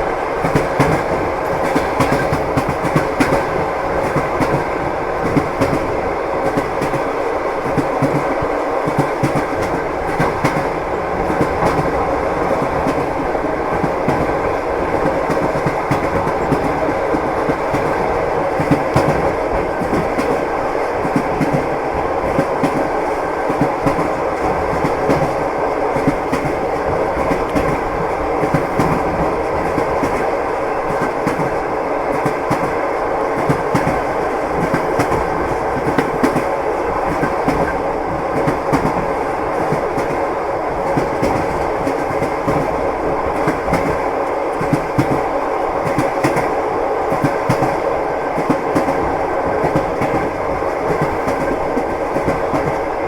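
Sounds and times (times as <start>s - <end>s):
train rumble: 0.0s - 53.0s
train wheels clacking on rails: 0.0s - 53.0s.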